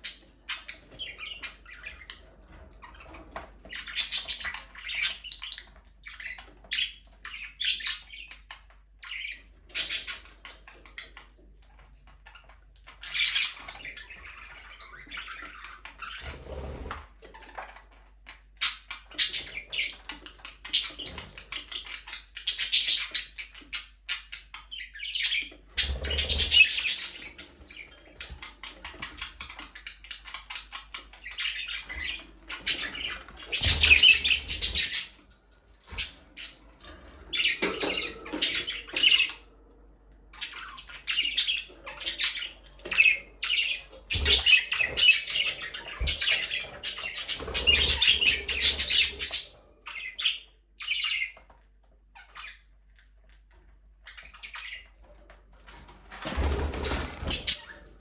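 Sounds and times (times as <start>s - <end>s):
budgerigars chattering and chirping: 0.0s - 39.6s, 40.3s - 55.1s.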